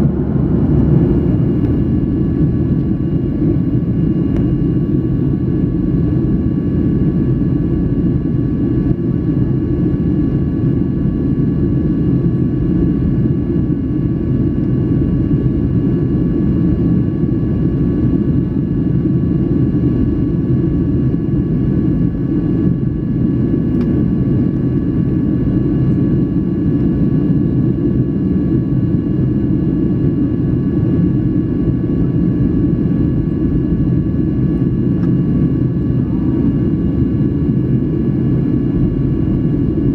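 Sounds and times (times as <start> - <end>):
faint steady whining tones: 0.0 - 39.9
jet engine and airflow rumble: 0.0 - 39.9.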